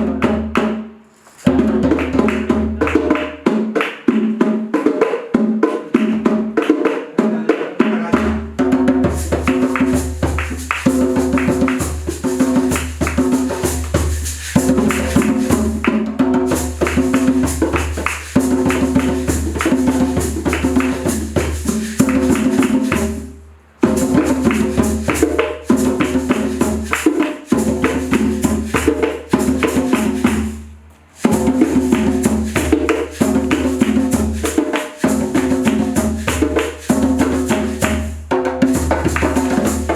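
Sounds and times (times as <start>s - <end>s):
music with dense percussion beat: 0.0s - 39.9s.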